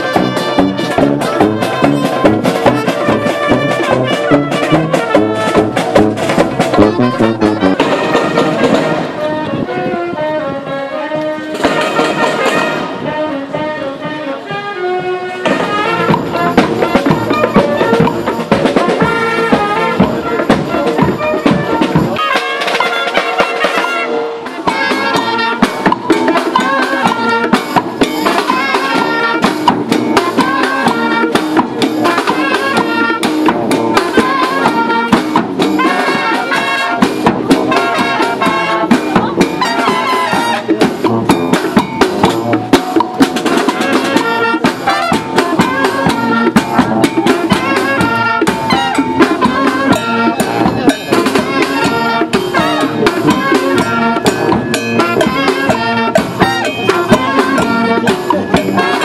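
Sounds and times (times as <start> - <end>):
bass drum and snare beat: 0.0 - 9.2, 15.4 - 23.6, 24.6 - 59.0
brass band playing: 0.0 - 59.0.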